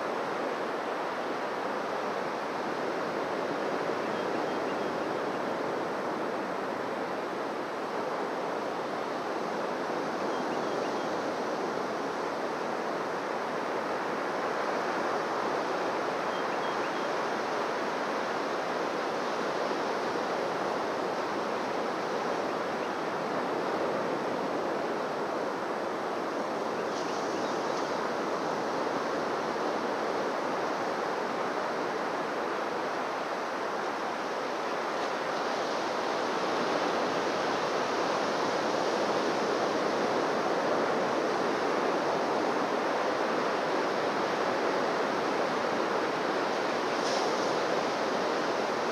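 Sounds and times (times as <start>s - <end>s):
waves washing onto beach: 0.0s - 48.9s.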